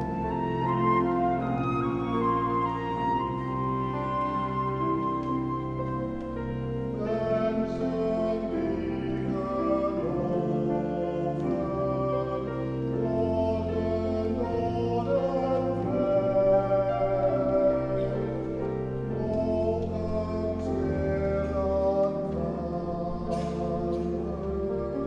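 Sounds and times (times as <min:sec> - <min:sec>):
instrumental accompaniment: 0:00.0 - 0:25.0
men's choir singing a hymn: 0:00.0 - 0:25.0.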